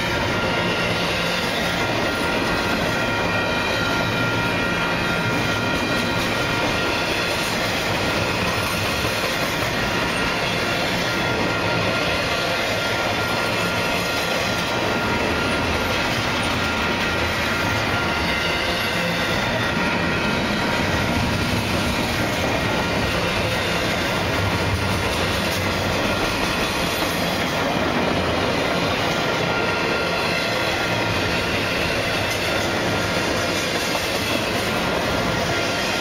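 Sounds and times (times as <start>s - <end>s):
freight train wheels rumbling on rail: 0.0s - 36.0s.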